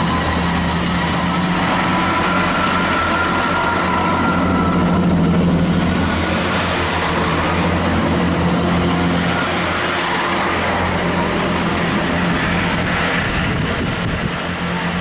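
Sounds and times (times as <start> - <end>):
diesel train engine drone: 0.0 - 15.0
wide rushing noise: 0.0 - 15.0.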